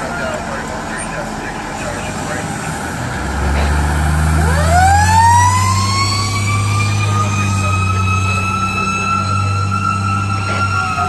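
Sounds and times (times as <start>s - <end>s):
diesel engine running low: 0.0s - 11.0s
siren wailing: 0.0s - 11.0s.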